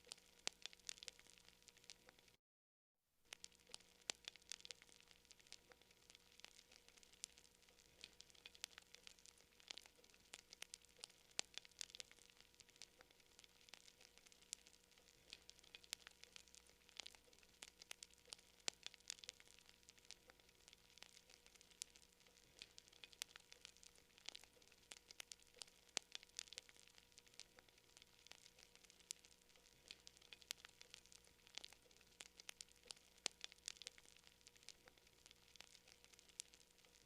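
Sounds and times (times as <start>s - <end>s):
campfire crackling: 0.0s - 2.4s, 3.3s - 37.0s
fire pops and snaps: 0.0s - 2.4s, 3.3s - 37.0s.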